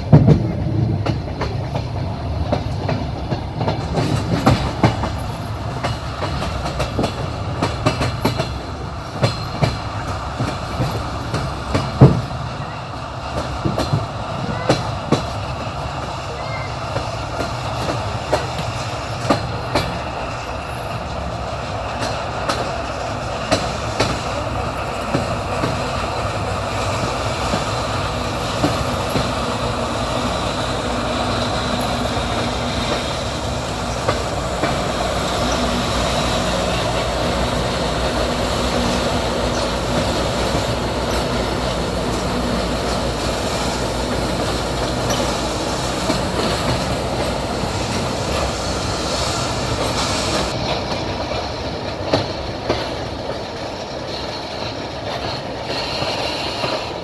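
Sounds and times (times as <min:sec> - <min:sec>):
train wheels rumbling on track: 0:00.0 - 0:57.0
wheels clacking over rail joints: 0:00.0 - 0:57.0.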